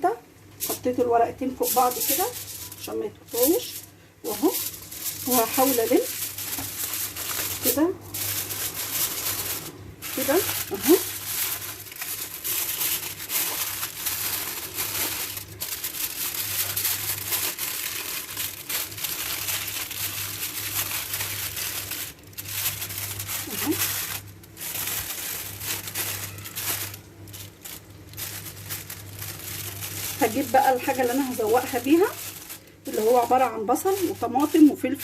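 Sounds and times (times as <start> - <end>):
aluminium foil crinkling: 0.0 - 35.0.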